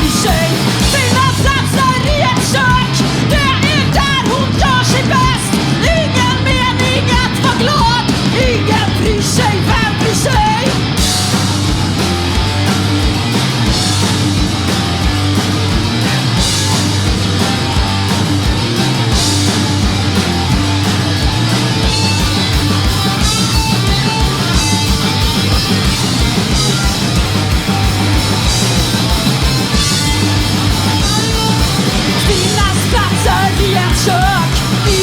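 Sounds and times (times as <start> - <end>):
punk rock band playing live: 0.0 - 35.0.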